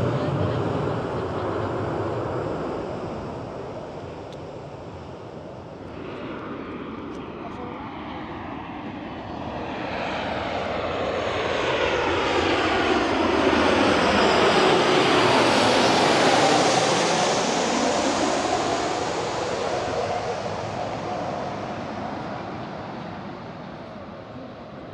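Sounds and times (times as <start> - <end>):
jet airliner passing overhead: 0.0 - 24.9.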